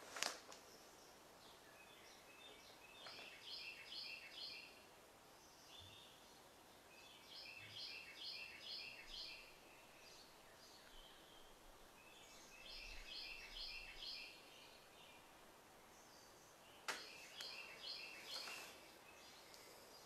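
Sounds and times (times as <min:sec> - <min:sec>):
faint bird song chirping: 0:00.6 - 0:20.0.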